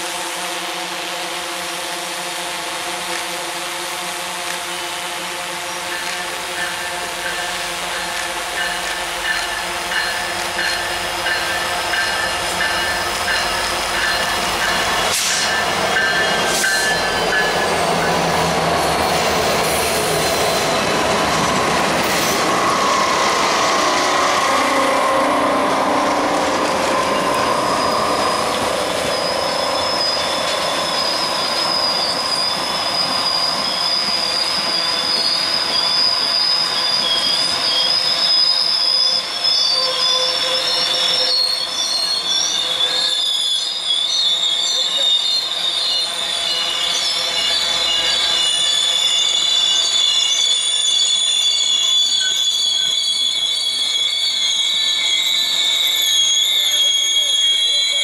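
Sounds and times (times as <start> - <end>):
diesel locomotives passing: 5.2 - 53.0
train wheels squealing on curve: 5.7 - 58.0.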